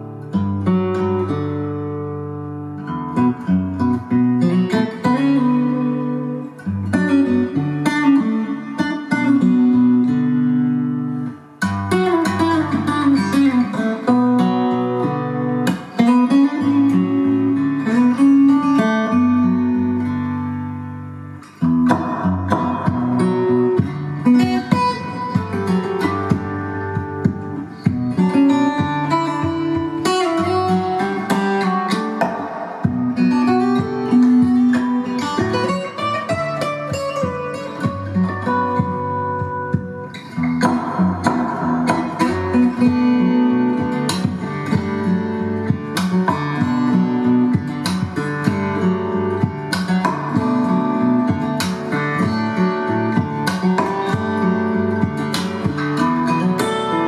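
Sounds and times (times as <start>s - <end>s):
guitar music with bass: 0.0s - 57.0s.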